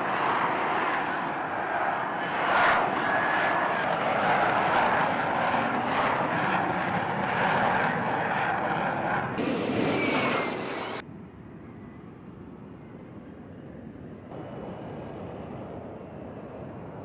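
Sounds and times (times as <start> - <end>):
aircraft engine running: 0.0 - 17.0.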